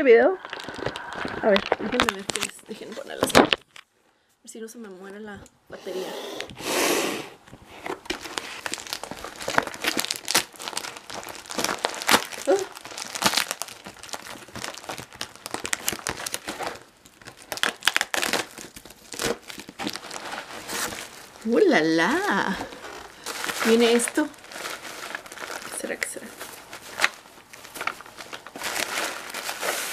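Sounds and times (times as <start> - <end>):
plastic packaging crinkling: 0.3 - 3.9, 7.7 - 29.9.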